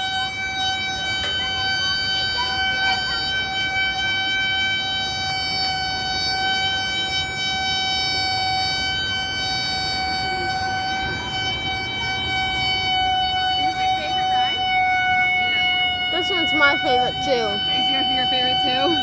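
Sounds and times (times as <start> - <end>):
high steady whine: 0.0 - 19.0.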